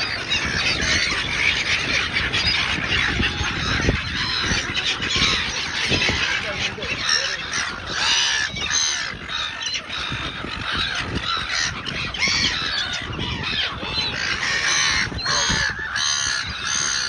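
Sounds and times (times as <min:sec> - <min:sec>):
gulls squawking: 0:00.0 - 0:17.0.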